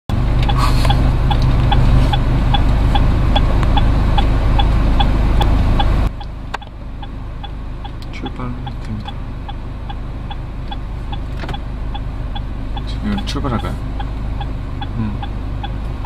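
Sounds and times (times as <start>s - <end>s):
low cabin rumble: 0.1s - 16.0s
turn signal ticking: 0.1s - 16.0s.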